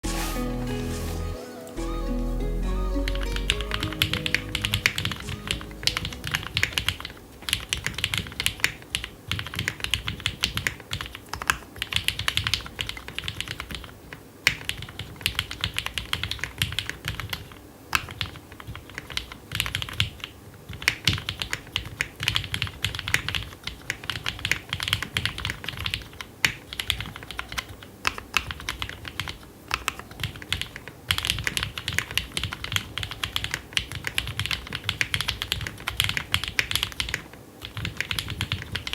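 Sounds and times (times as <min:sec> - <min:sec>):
mechanical keyboard typing: 0:03.0 - 0:38.9.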